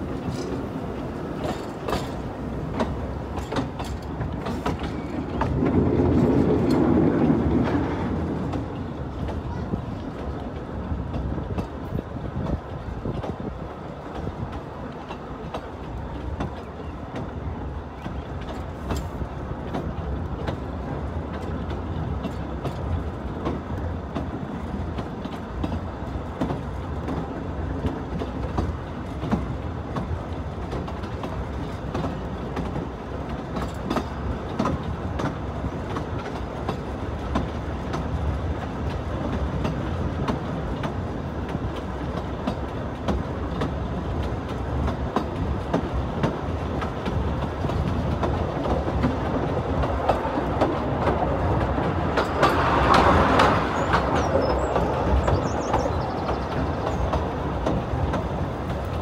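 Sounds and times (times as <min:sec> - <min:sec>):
train rumbling on track: 0:00.0 - 0:59.0
wheels clicking over rail joints: 0:00.0 - 0:59.0.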